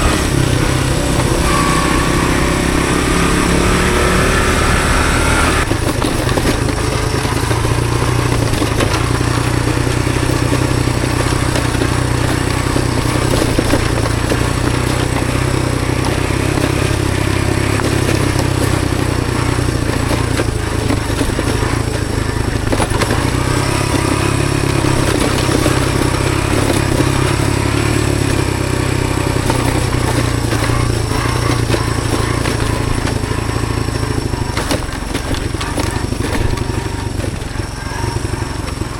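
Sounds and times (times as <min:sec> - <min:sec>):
small motorcycle engine running: 0:00.0 - 0:38.9
wind and road noise: 0:00.0 - 0:38.9.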